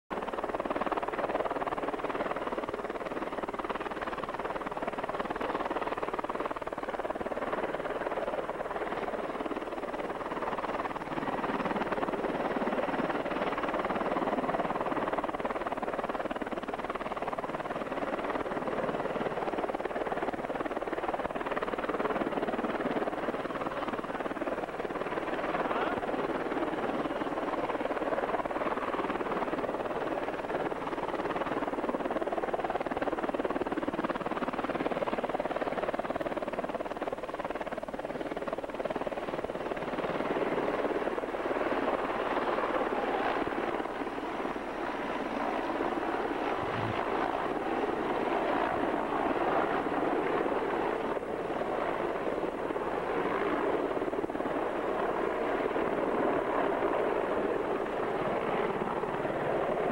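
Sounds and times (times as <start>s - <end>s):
helicopter overhead: 0.1s - 59.9s.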